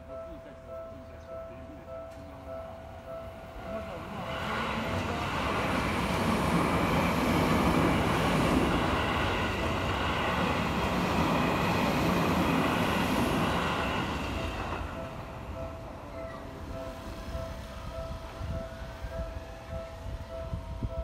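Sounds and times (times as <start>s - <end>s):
train wheels rumbling on rail: 1.7s - 21.0s.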